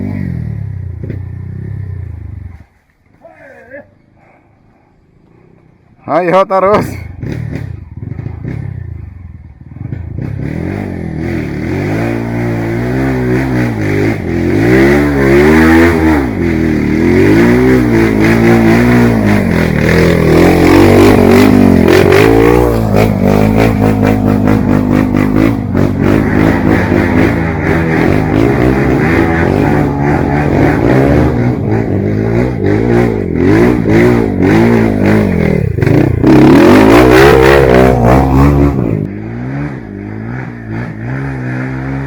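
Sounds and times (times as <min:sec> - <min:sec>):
dirt bike engine revving: 0:06.8 - 0:42.0.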